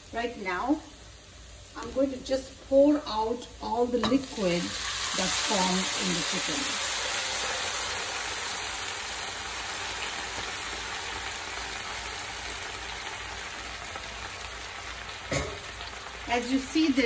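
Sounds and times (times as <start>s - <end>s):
liquid sizzling in hot pan: 0.0s - 17.0s.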